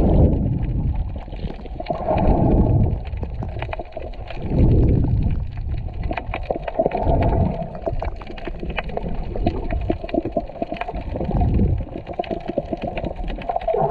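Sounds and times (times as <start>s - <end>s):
muffled underwater sloshing: 0.0s - 13.9s
small clicks and crackles: 0.0s - 13.9s.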